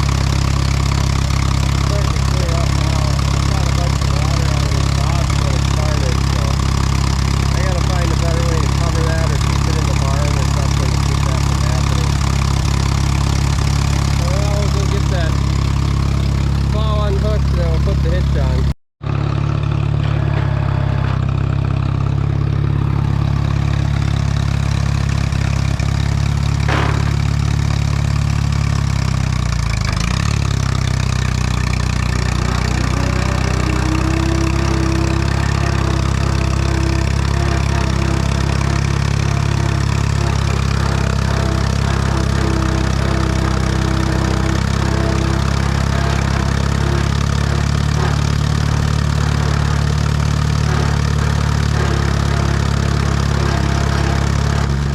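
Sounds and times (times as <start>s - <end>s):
tractor engine idling: 0.0s - 54.9s.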